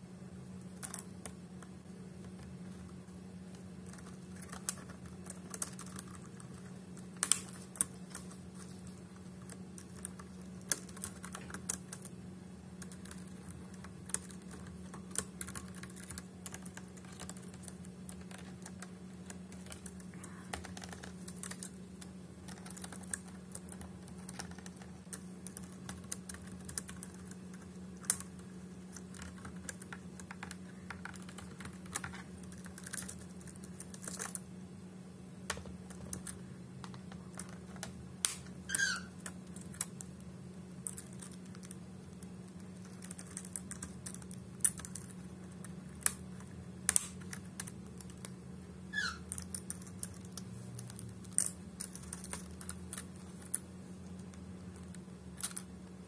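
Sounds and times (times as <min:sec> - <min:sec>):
steady low hum: 0:00.0 - 0:56.0
bird pecking laptop keys: 0:00.6 - 0:34.5, 0:35.4 - 0:56.0.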